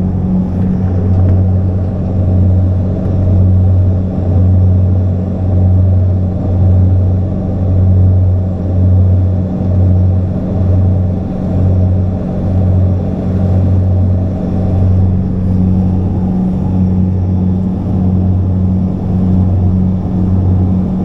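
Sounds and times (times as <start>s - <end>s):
propeller airliner cabin drone: 0.0s - 21.0s.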